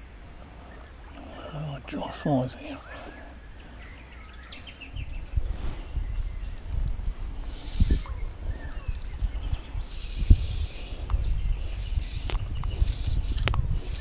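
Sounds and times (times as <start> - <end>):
wind rumbling on microphone: 0.0 - 14.0
faint bird chirps: 0.4 - 6.7, 7.4 - 14.0.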